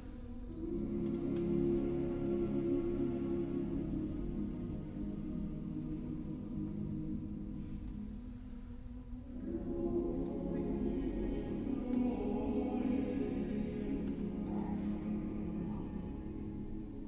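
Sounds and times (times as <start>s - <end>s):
choir singing unaccompanied: 0.0s - 17.0s.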